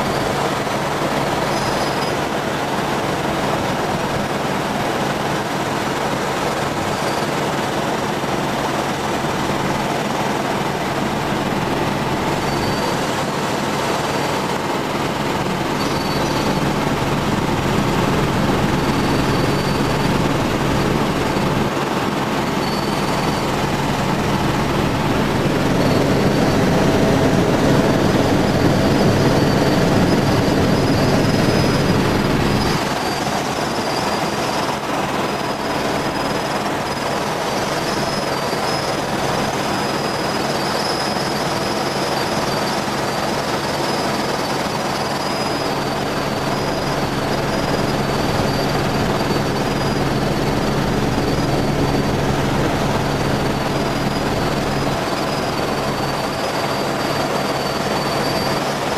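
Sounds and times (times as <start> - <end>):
helicopter engine and rotor drone: 0.0 - 58.9
thin high whine: 0.0 - 58.9.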